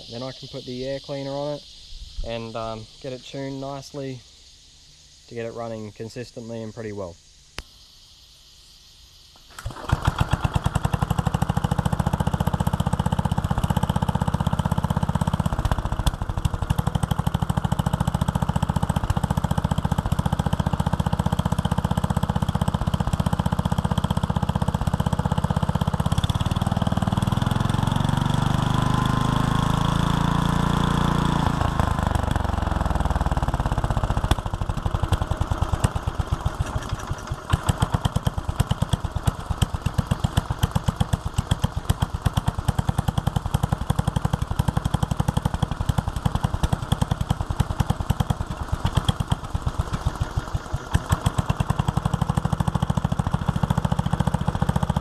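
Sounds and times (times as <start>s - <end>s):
stationary engine running: 9.5s - 55.0s.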